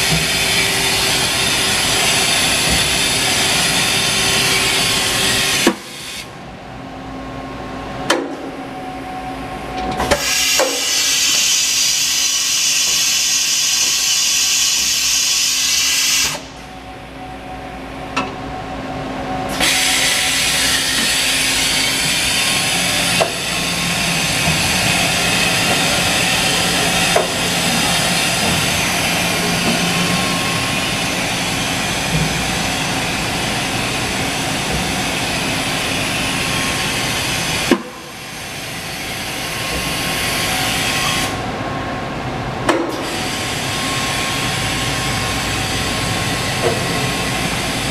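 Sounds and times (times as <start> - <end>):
machine whirring and hissing: 0.0 - 47.9.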